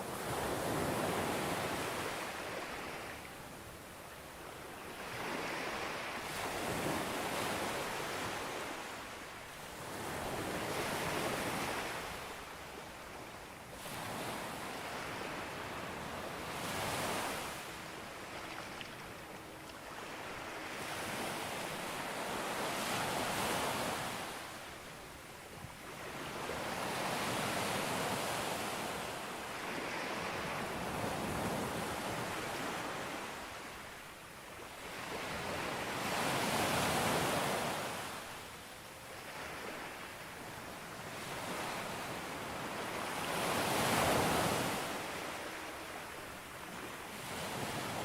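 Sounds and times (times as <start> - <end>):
sea waves breaking on a beach: 0.0 - 48.0.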